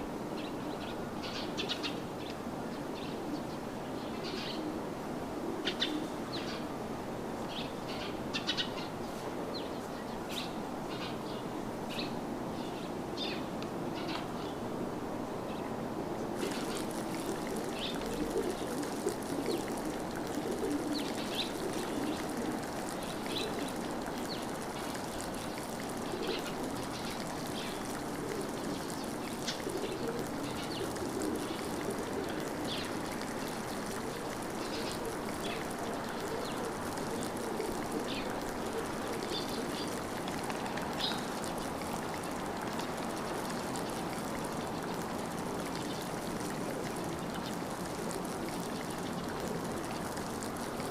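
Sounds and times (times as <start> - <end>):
stream running water: 0.0 - 50.9.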